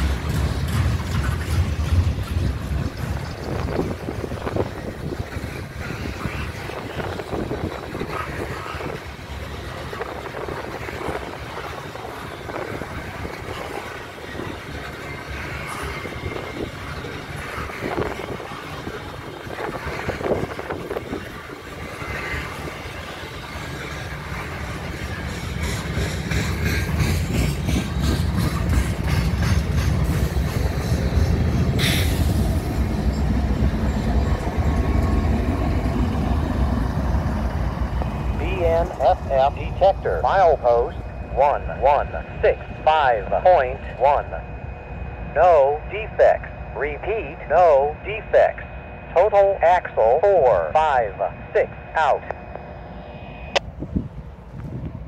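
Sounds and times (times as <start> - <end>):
train wheels rumbling on rails: 0.0 - 49.6.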